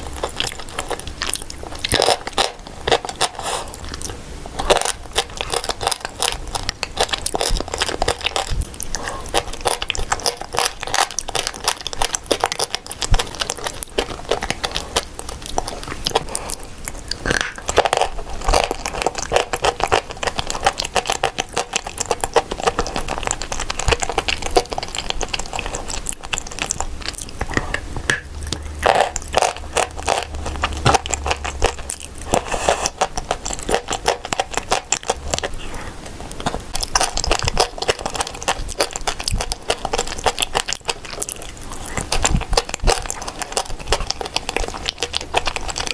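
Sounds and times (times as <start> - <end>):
crunching and chewing: 0.0 - 45.9.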